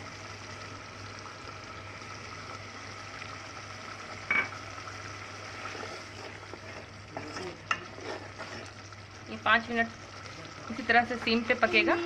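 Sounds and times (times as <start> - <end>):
gravy bubbling and sizzling in a pot: 0.0 - 12.0.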